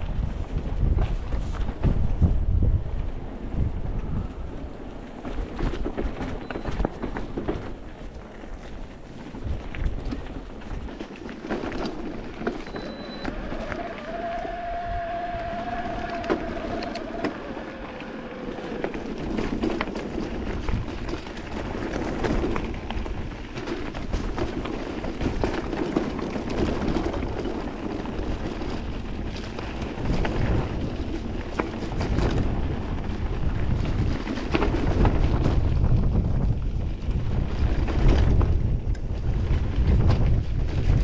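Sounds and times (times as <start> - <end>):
bike rattles and knocks: 0.0 - 41.0
bike rolling over rocky trail: 0.0 - 41.0
wind buffeting microphone: 0.0 - 41.0.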